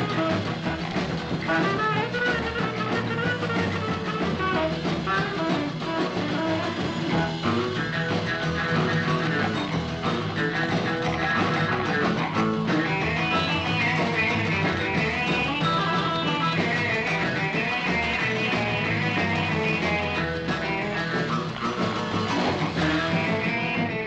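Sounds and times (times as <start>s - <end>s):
rock band with electric guitars: 0.0s - 24.0s.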